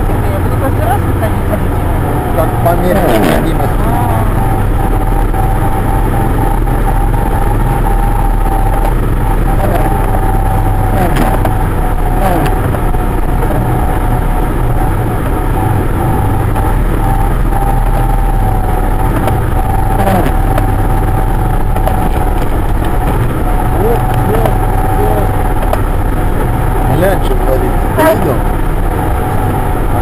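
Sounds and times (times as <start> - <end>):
car cabin rumble: 0.0 - 30.0.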